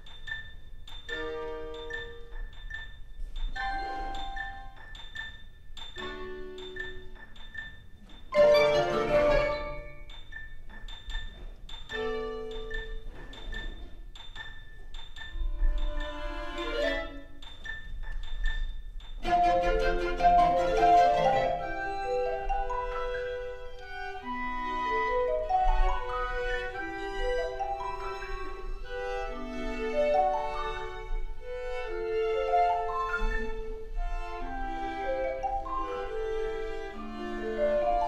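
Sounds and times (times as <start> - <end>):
repeated high tick: 0.0 - 8.9, 9.5 - 37.0
chamber music ensemble: 0.0 - 38.0.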